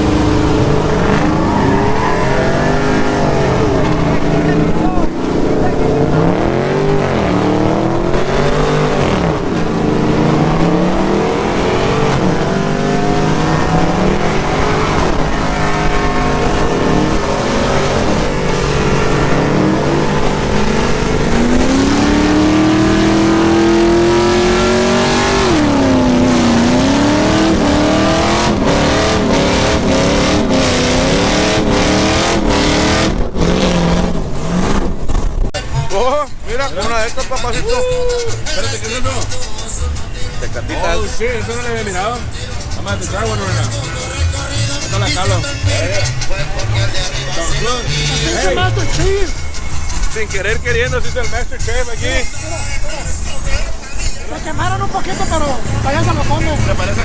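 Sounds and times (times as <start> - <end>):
vehicle engines revving: 0.0 - 57.0.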